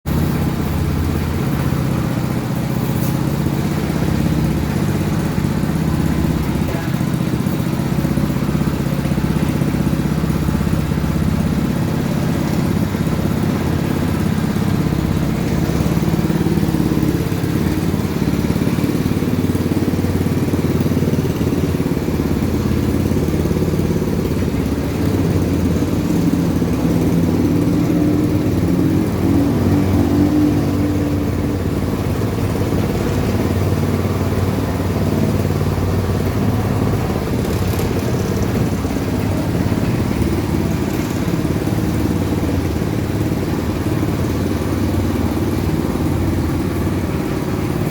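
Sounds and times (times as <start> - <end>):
small petrol engine running: 0.1 - 47.9.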